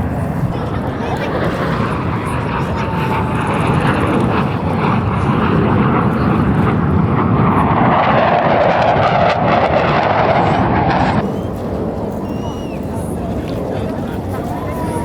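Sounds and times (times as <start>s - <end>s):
jet roaring overhead: 0.0s - 15.0s.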